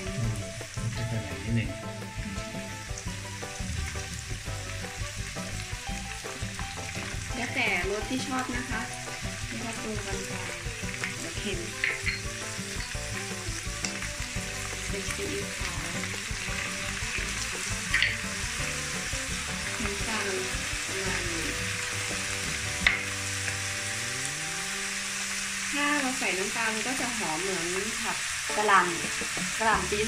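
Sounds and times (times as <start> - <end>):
food sizzling in a wok: 0.0 - 30.0.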